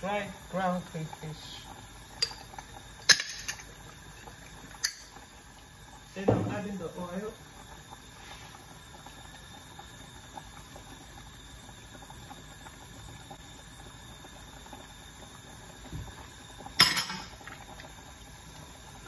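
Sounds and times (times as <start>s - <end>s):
stock boiling and bubbling: 0.0s - 19.0s.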